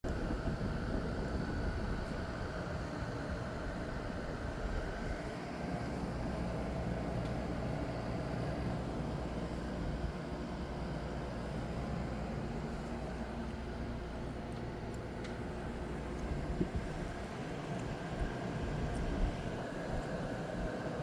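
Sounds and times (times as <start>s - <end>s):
air conditioner fan rushing: 0.0s - 21.0s.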